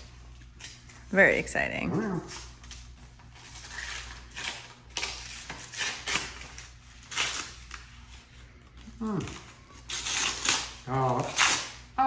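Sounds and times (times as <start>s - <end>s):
wrapping paper rustling: 2.1s - 12.0s.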